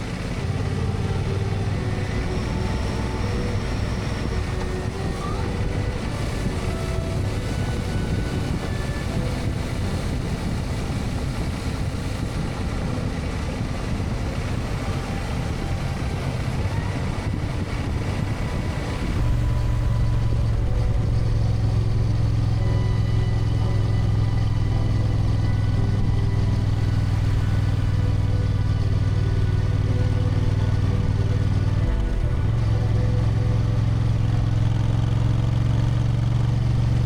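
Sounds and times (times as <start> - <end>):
motorcycle engine running: 0.0 - 37.0
rushing wind noise: 0.0 - 37.0.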